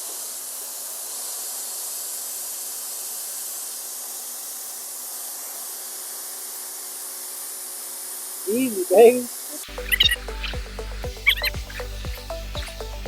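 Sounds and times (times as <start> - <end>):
pressure washer spraying: 0.0 - 13.0.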